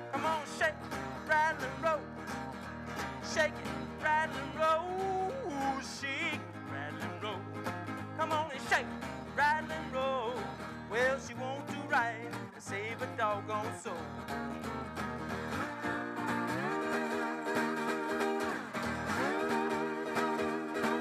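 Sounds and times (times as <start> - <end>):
acoustic blues guitar: 0.0 - 21.0.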